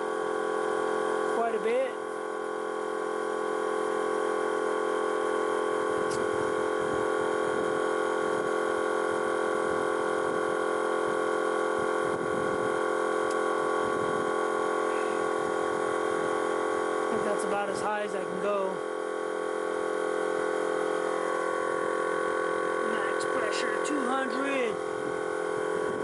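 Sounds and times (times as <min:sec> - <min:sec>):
air compressor droning: 0:00.0 - 0:26.0.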